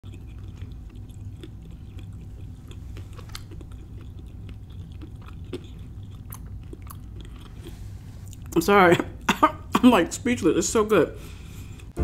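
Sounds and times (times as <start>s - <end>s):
person chewing crunchy food: 0.0s - 9.7s, 11.3s - 12.0s
low steady hum: 0.0s - 12.0s.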